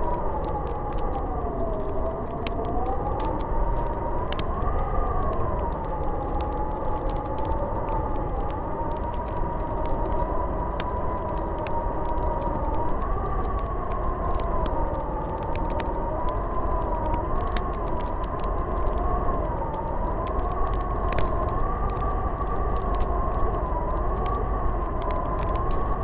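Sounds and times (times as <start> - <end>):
faint clicks: 0.0 - 26.0
wind howling with whistling tone: 0.0 - 26.0.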